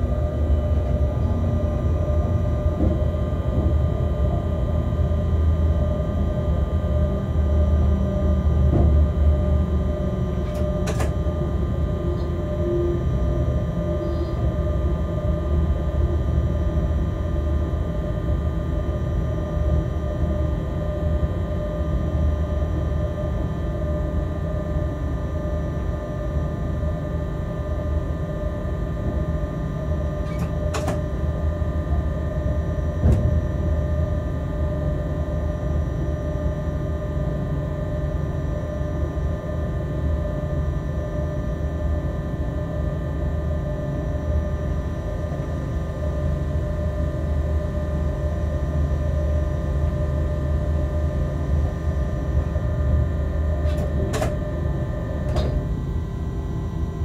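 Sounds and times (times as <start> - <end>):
constant tonal hum: 0.0 - 57.0.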